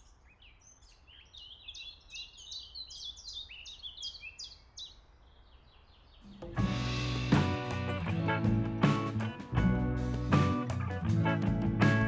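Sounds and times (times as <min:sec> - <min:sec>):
songbird chirping: 0:00.0 - 0:11.4.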